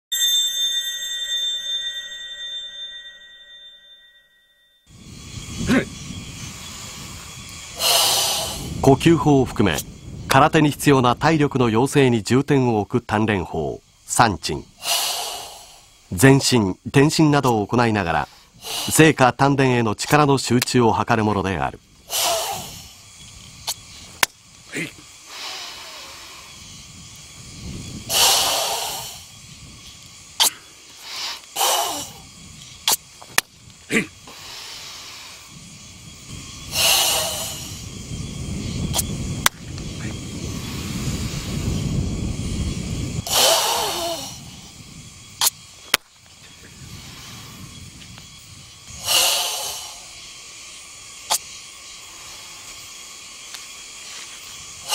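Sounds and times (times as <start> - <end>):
forceful hissing breaths: 4.9 - 54.9.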